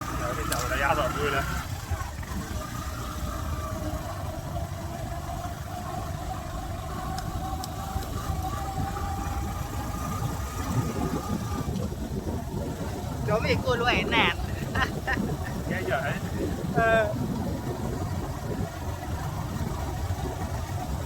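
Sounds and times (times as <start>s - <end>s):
low rumble: 0.0s - 21.0s
motorcycle engine running: 0.0s - 21.0s.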